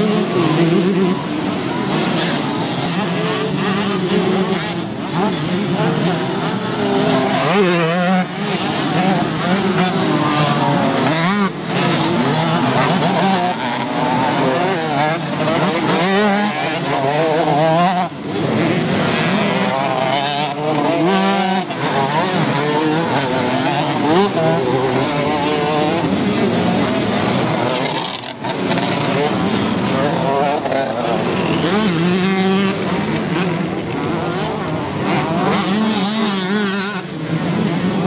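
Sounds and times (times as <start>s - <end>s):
two-stroke motocross bikes racing: 0.0s - 38.0s.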